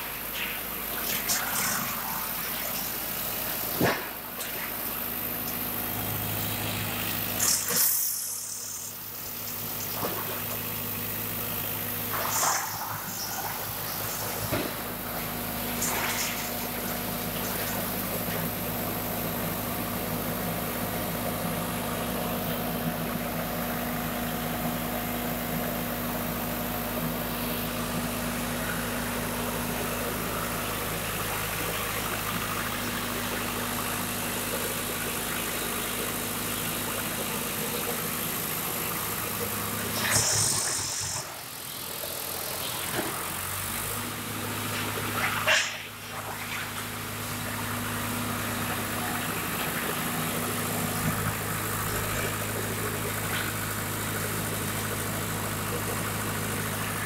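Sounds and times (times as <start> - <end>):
wood chipper diesel engine humming: 0.0 - 57.0.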